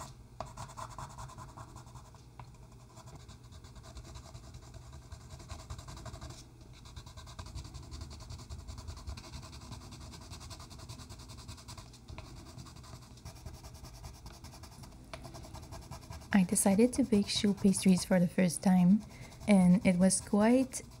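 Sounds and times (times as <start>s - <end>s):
pencil scratching on paper: 0.0s - 2.2s, 2.8s - 21.0s.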